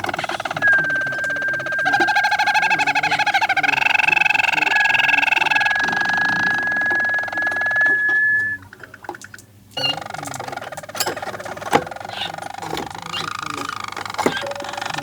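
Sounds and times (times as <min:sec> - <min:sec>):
canary singing in trills: 0:00.0 - 0:15.0
faint clicks: 0:00.0 - 0:15.0.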